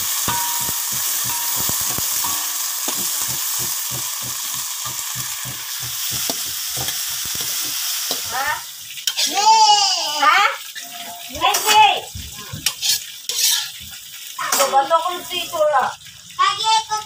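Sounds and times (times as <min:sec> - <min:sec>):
spatula stirring in a wok: 0:00.0 - 0:09.7, 0:11.4 - 0:15.5
vegetables sizzling in oil: 0:00.0 - 0:17.0.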